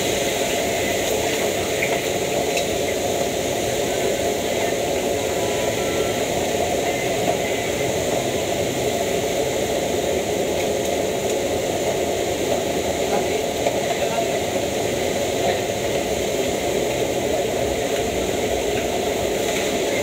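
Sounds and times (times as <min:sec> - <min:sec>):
gas burner roaring: 0:00.0 - 0:20.0.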